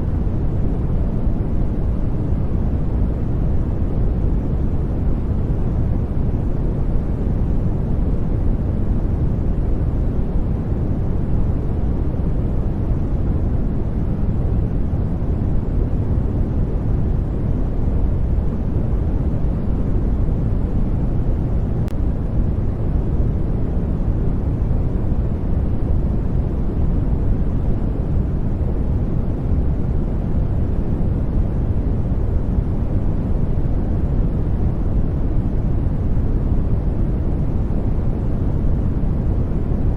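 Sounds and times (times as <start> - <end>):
deep white noise rumble: 0.0 - 39.9.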